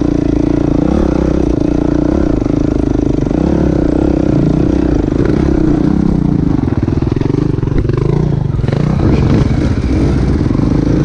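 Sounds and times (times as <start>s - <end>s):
bike clattering over ruts: 0.0s - 11.0s
dirt bike engine running: 0.0s - 11.0s.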